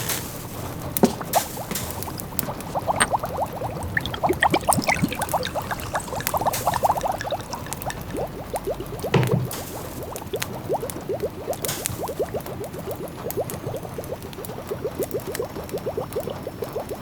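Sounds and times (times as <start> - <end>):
wood fire crackling: 0.0 - 14.5
pot simmering with bubbles popping: 0.0 - 17.0.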